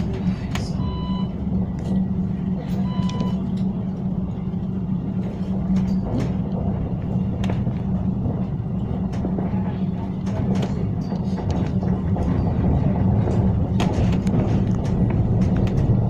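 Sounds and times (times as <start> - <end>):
low hum: 0.0 - 16.0
tram rumbling on tracks: 0.0 - 16.0.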